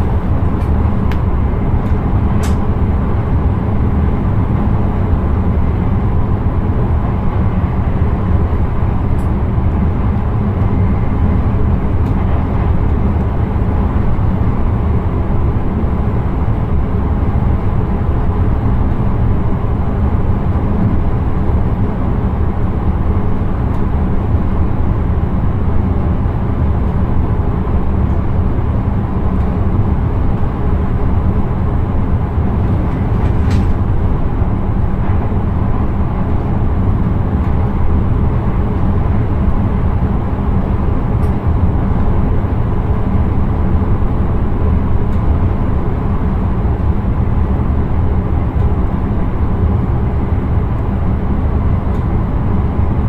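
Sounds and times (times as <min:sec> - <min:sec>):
train rumbling along track: 0:00.0 - 0:53.0.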